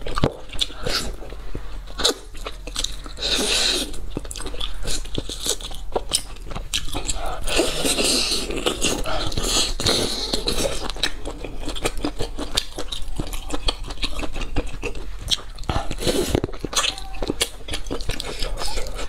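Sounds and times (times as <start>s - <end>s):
wet chewing and lip smacking: 0.0s - 19.0s.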